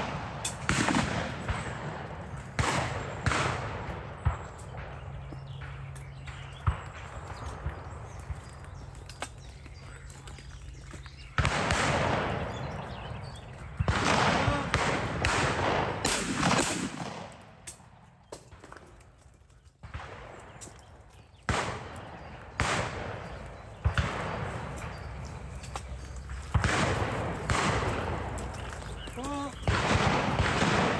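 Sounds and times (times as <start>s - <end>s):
shotgun shots: 0.0s - 8.0s, 11.3s - 18.7s, 21.4s - 30.9s.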